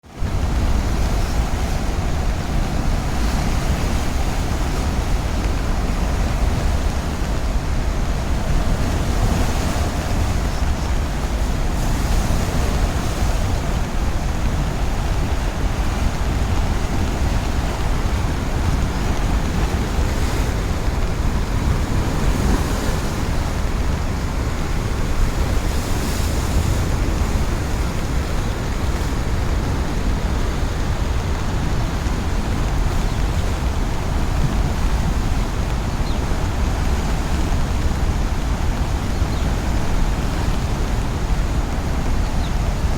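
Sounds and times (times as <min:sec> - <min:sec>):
river rushing in flood: 0:00.0 - 0:42.9
wind buffeting microphone: 0:00.0 - 0:42.9.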